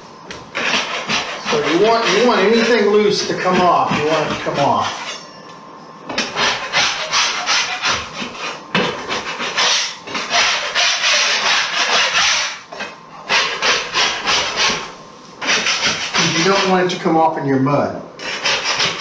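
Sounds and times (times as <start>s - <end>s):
drywall knife scraping: 0.5s - 5.3s, 6.1s - 16.8s, 18.2s - 19.0s.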